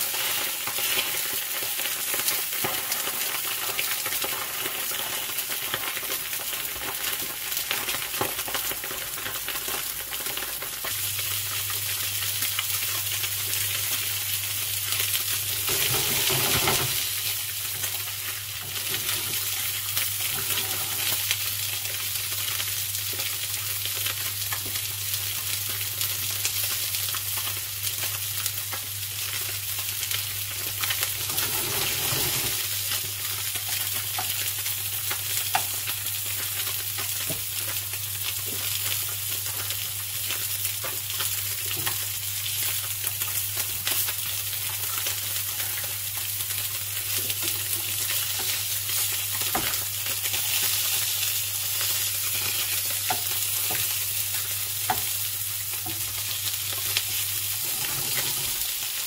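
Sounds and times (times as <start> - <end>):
fish sizzling in hot oil: 0.0 - 59.0.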